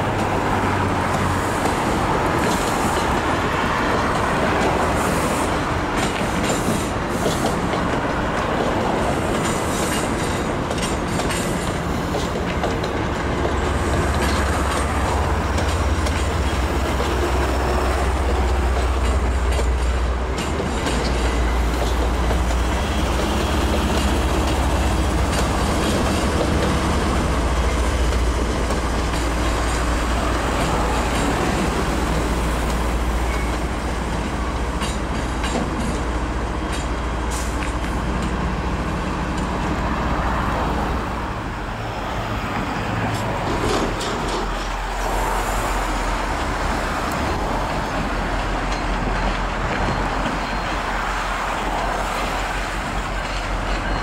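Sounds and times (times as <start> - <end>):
wheels clicking over rail joints: 0.0 - 40.8, 42.5 - 54.0
train rumbling: 0.0 - 54.0.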